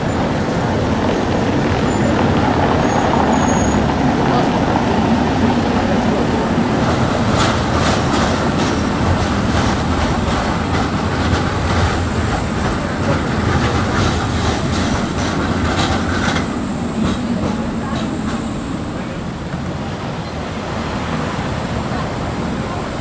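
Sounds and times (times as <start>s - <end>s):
tram rolling rumble: 0.0s - 23.0s
wheels clacking over rail joints: 0.0s - 23.0s.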